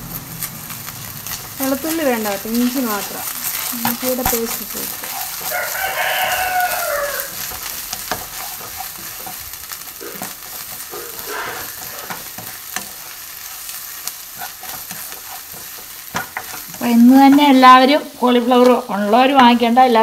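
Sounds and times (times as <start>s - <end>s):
onions sizzling in oil: 0.0s - 20.0s
spatula scraping pan: 1.2s - 20.0s.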